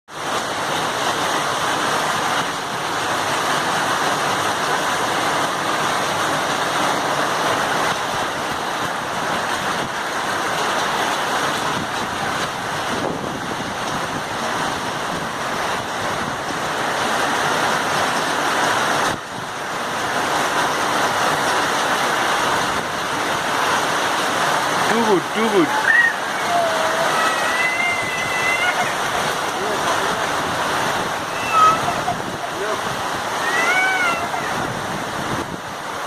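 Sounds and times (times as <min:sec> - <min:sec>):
heavy rain pouring: 0:00.1 - 0:36.0.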